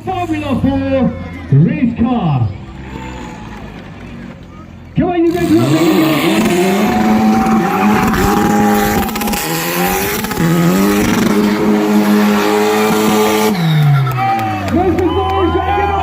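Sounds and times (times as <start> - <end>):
race car engine revving: 2.6 - 16.0.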